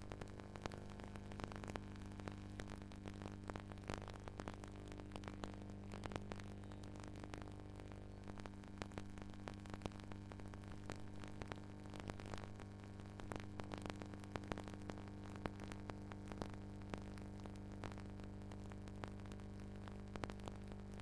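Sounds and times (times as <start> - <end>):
low electrical hum: 0.0 - 21.0
static crackling clicks: 0.0 - 21.0.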